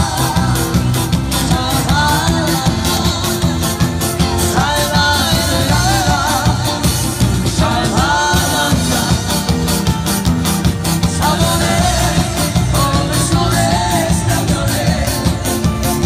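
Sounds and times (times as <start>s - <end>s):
person singing: 0.0s - 9.9s, 11.0s - 16.0s
electric bass guitar: 0.0s - 16.0s
live band music: 0.0s - 16.0s.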